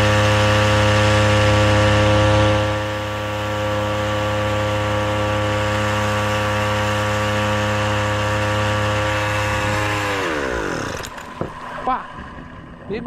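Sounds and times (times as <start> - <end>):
outboard motor engine drone: 0.0 - 13.0.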